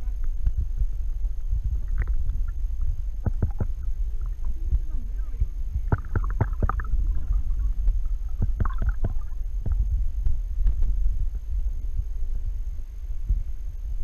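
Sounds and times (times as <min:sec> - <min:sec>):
underwater water rumble: 0:00.0 - 0:14.0.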